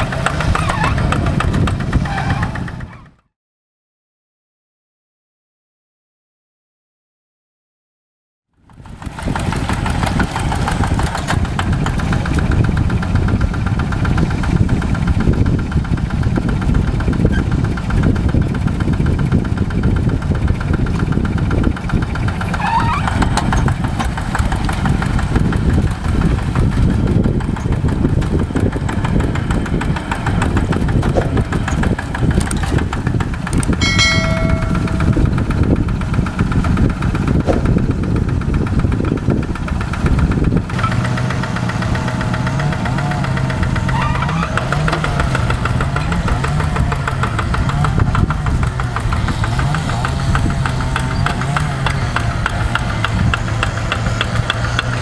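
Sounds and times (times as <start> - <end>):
tractor diesel engine running: 0.0 - 3.2, 8.6 - 55.0.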